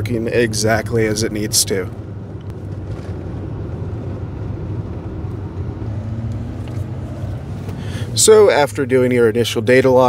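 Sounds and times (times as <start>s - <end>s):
car engine low drone: 0.0s - 10.0s
road noise inside car: 0.0s - 10.0s.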